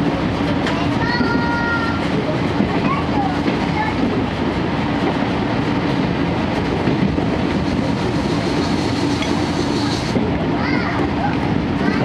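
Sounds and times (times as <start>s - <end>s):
train wheels rumbling over rails: 0.0s - 12.0s.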